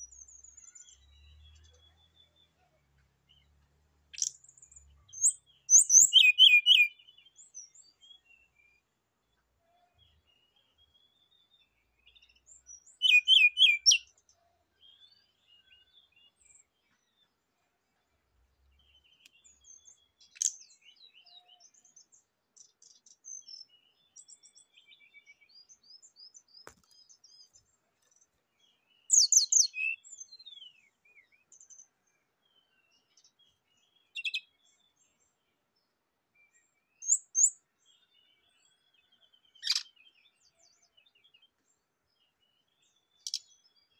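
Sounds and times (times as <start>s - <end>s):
faint bird twittering: 4.1s - 8.8s, 9.6s - 17.3s, 18.6s - 35.4s, 36.4s - 41.5s, 42.1s - 43.9s.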